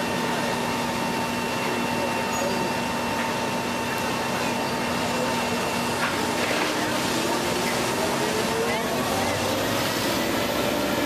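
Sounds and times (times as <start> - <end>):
heavy diesel machinery drone: 0.0 - 11.0.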